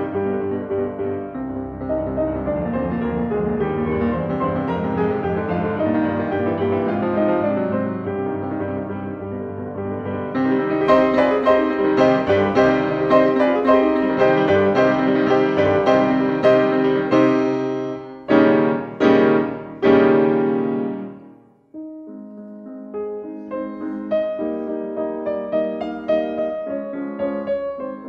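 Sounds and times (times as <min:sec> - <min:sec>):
loud piano chords: 0:00.0 - 0:28.0
piano music: 0:00.0 - 0:28.0.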